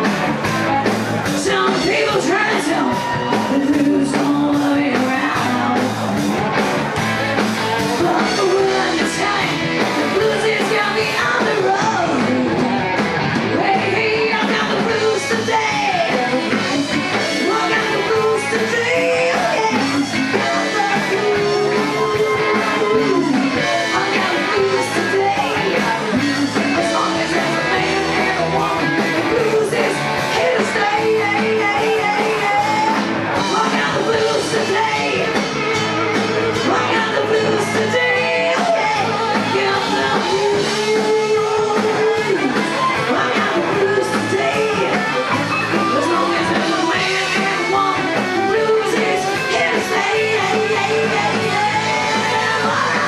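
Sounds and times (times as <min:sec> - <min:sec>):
bass guitar: 0:00.0 - 0:53.0
drums: 0:00.0 - 0:53.0
electric guitars: 0:00.0 - 0:53.0
person singing: 0:01.2 - 0:06.2, 0:07.8 - 0:53.0.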